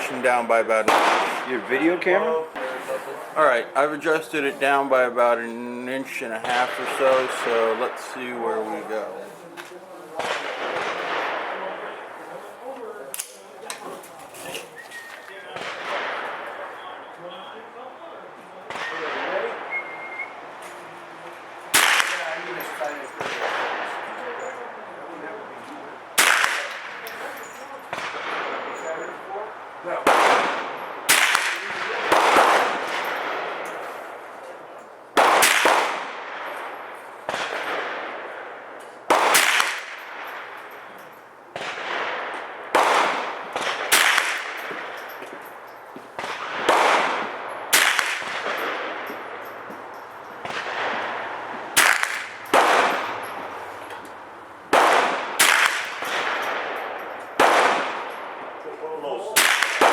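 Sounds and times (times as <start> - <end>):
rifle shots echoing: 0.0 - 12.5, 15.2 - 17.6, 18.2 - 20.7, 21.3 - 59.9.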